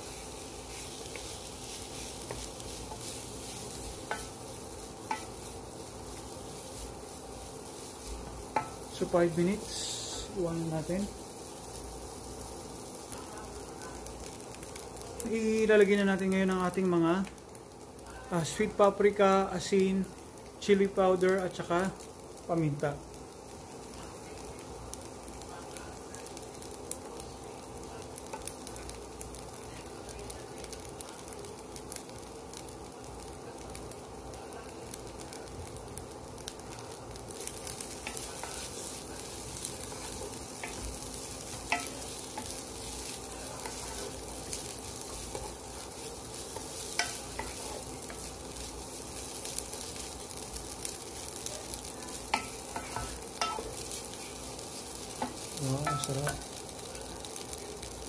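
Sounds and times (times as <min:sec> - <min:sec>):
rice sizzling in a pot: 0:00.0 - 0:58.0.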